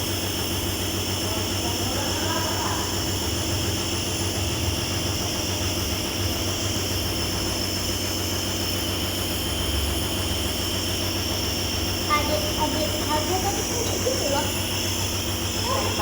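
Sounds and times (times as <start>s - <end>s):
nebulizer compressor motor hum: 0.0s - 16.0s.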